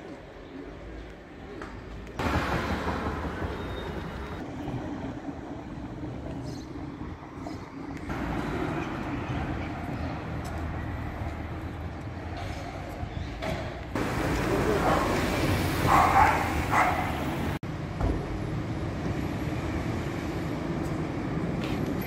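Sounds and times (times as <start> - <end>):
tram running on rails: 0.0 - 13.1, 13.8 - 22.0
street traffic rumble: 0.0 - 22.0.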